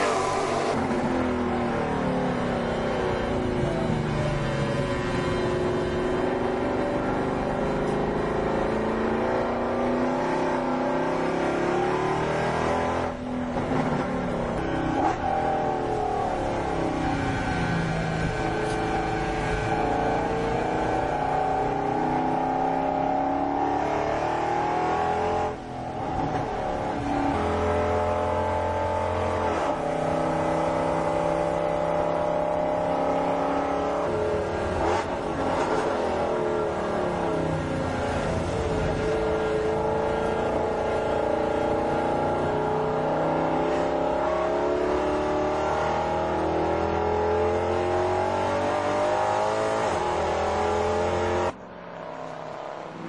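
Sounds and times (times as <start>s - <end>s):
car engine accelerating from cabin: 0.0s - 51.6s.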